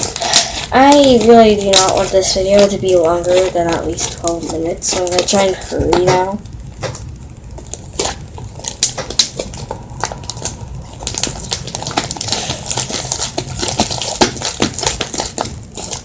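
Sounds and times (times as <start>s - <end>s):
slime being kneaded by hand: 0.0s - 16.0s.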